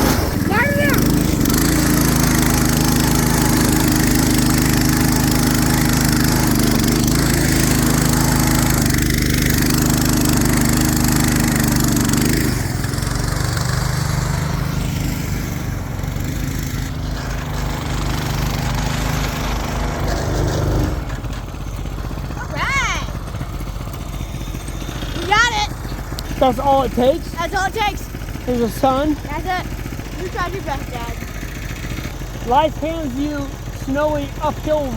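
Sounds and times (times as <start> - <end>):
go-kart engine running: 0.0 - 34.9.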